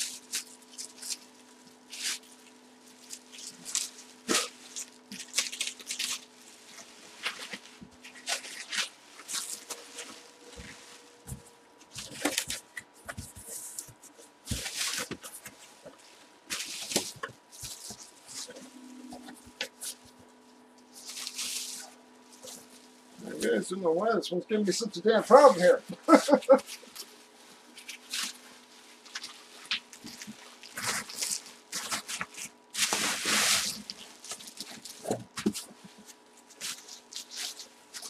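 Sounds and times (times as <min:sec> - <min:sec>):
bubble wrap crackling: 0:00.0 - 0:23.4, 0:25.3 - 0:38.0.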